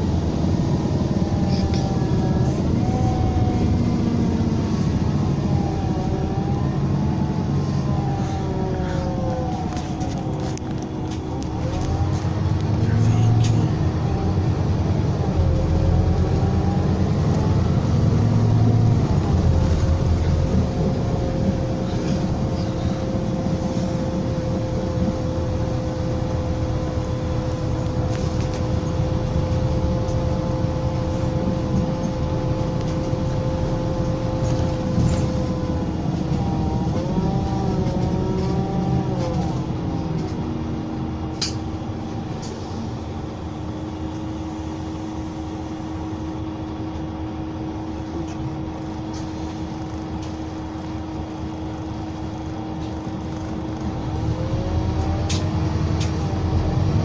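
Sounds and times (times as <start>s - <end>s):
bus diesel engine whine: 0.0s - 57.0s.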